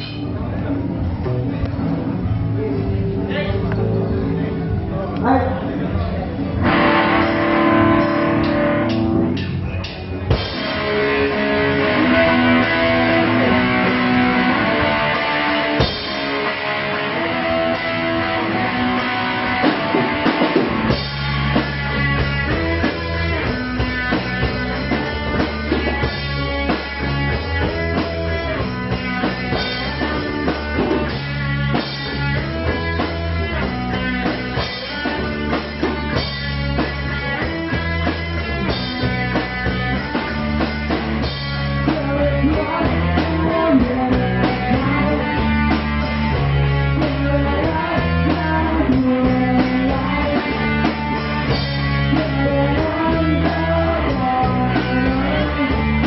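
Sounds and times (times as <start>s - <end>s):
drum kit: 0.0s - 56.0s
electric guitar: 0.0s - 56.0s
heavy bass line: 0.0s - 56.0s.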